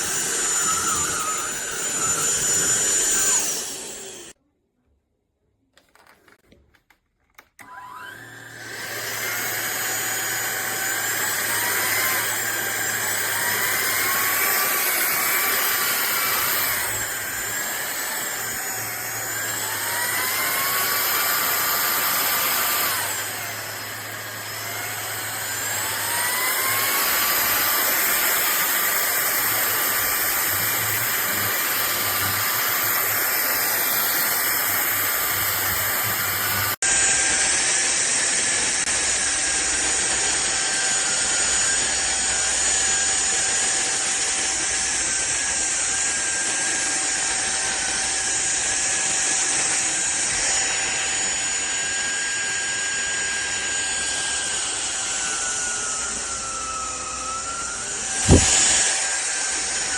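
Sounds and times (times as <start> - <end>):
vacuum cleaner motor whine: 0.0 - 4.4, 7.6 - 59.9.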